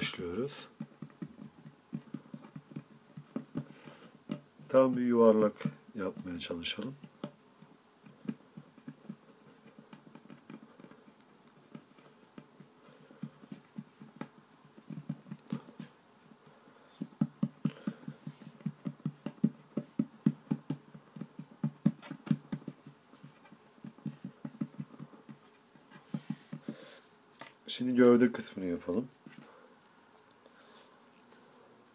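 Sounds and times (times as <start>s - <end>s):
hands patting dough on wood: 0.0s - 27.6s.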